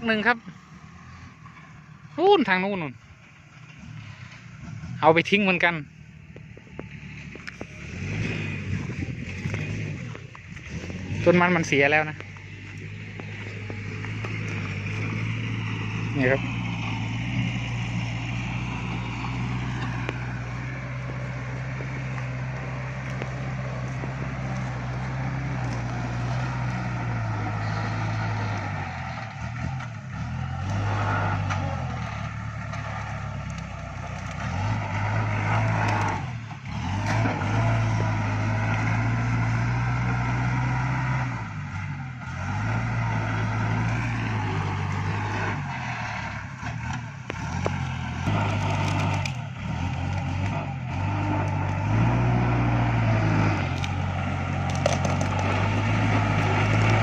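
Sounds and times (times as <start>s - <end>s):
tractor diesel engine working: 0.0s - 57.0s.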